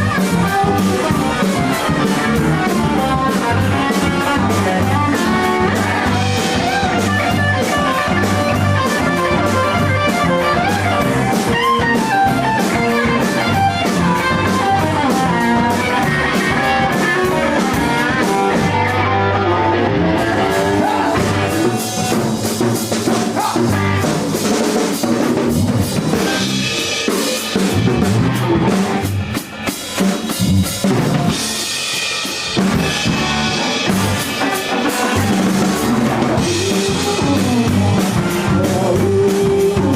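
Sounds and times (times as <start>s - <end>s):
drum kit: 0.0s - 39.9s
electric guitar lead lines: 0.0s - 39.9s.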